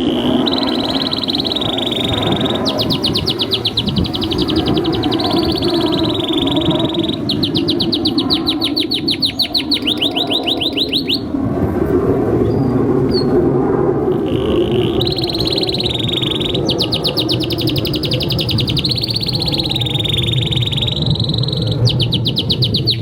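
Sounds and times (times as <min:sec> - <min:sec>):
canary singing trills: 0:00.0 - 0:11.3, 0:14.1 - 0:23.0.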